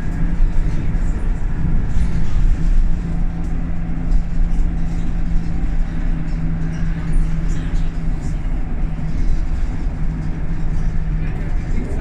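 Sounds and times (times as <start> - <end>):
bus diesel engine running: 0.0 - 12.0
road rumble: 0.0 - 12.0
steady low drone: 0.0 - 12.0.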